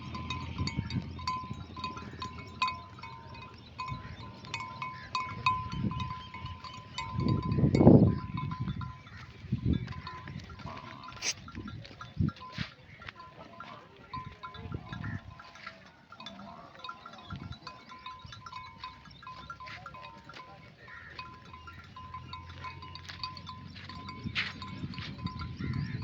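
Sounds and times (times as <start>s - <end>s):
sheep bells clinking: 0.0s - 26.0s.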